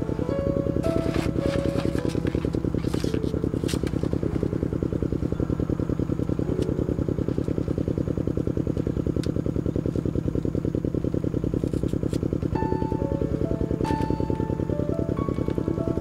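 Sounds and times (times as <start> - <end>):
small engine puttering: 0.0 - 16.0.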